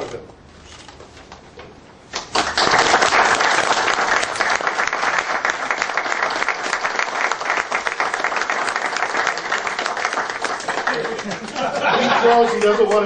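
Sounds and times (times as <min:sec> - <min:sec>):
crowd applauding: 0:02.2 - 0:13.0.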